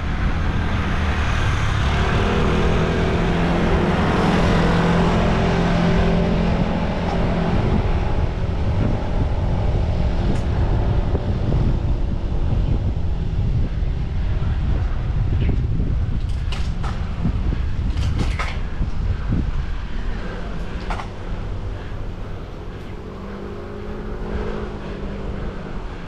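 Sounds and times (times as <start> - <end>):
passing vehicle engine hum: 0.0 - 26.0
wind rumbling on microphone: 0.0 - 26.0.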